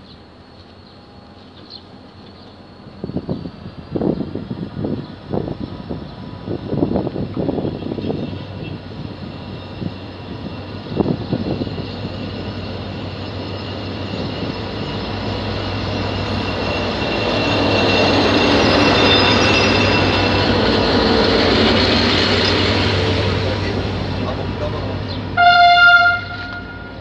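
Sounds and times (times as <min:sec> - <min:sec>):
diesel locomotive engine passing: 0:00.0 - 0:27.0.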